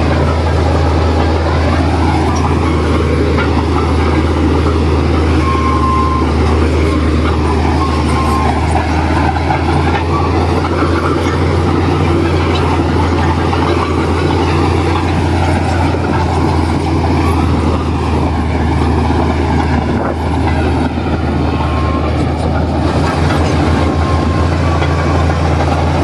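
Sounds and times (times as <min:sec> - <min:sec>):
heavy diesel engine droning: 0:00.0 - 0:26.0.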